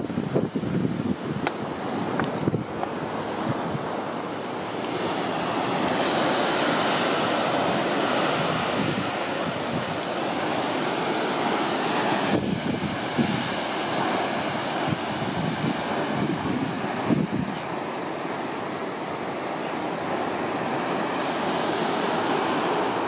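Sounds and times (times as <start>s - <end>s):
ocean surf rushing: 0.0s - 23.0s
wind buffeting microphone: 0.0s - 23.0s.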